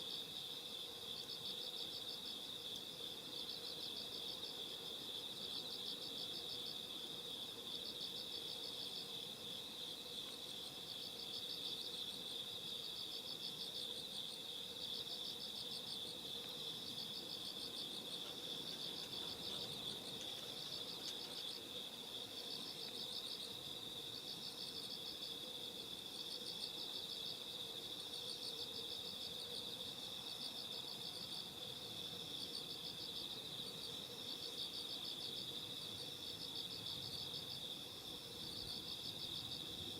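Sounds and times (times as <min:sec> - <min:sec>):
faint high insect ticking: 0:00.0 - 0:39.9.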